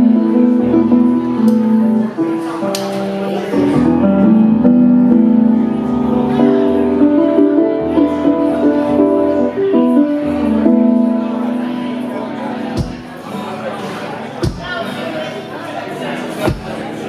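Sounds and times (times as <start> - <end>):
piano playing held chords: 0.0 - 17.0.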